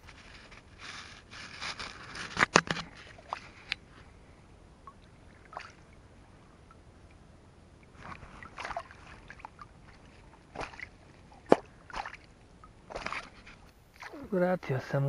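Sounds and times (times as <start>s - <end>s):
water sloshing and splashing: 0.0s - 4.2s, 4.8s - 7.2s, 7.8s - 14.4s.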